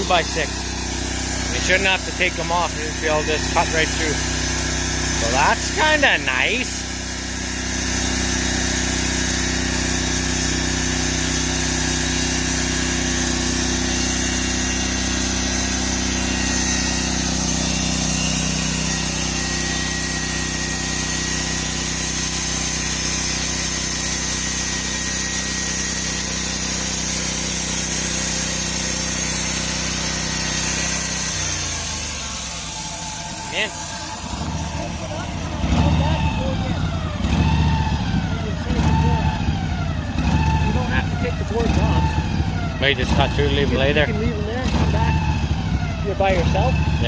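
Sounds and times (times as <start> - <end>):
sawmill cutting through log: 0.0 - 47.0.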